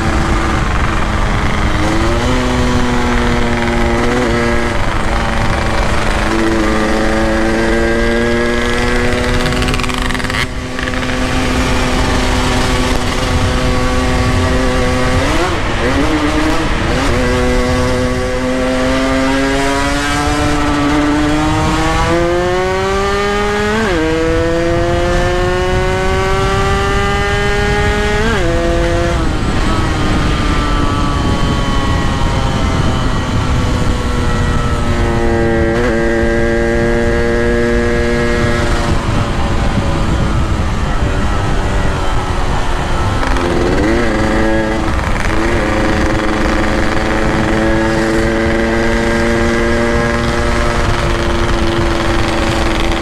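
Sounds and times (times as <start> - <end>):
two-stroke motorcycle engine: 0.0 - 53.0
wind rumbling on microphone: 0.0 - 53.0.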